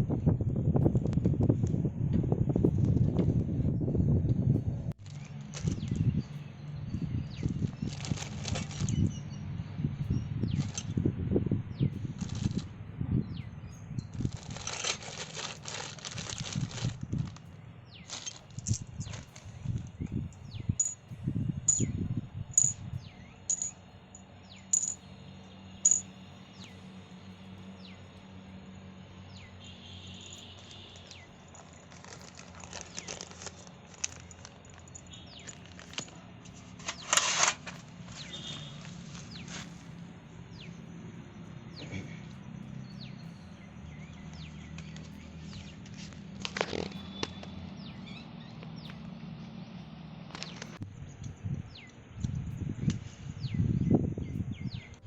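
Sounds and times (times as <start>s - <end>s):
small birds chirping: 2.6s - 55.0s.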